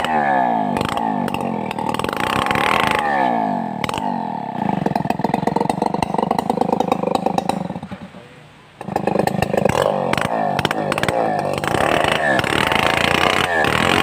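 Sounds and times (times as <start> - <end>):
chainsaw running: 0.0 - 8.1, 8.8 - 14.0.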